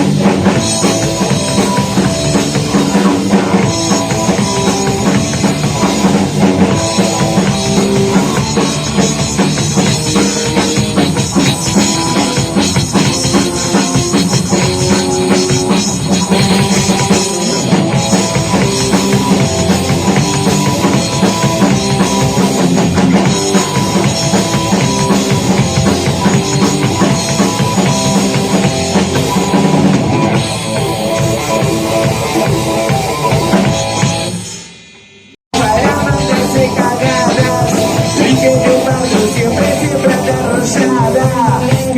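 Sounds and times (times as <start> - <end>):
bass guitar: 0.0 - 41.9
drum kit: 0.0 - 41.9
electric guitar: 0.0 - 41.9.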